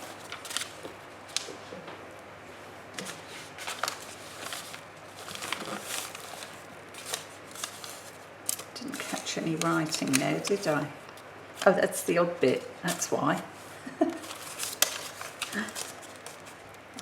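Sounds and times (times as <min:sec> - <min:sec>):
paper rustling: 0:00.0 - 0:01.6, 0:03.0 - 0:11.9, 0:12.9 - 0:17.0.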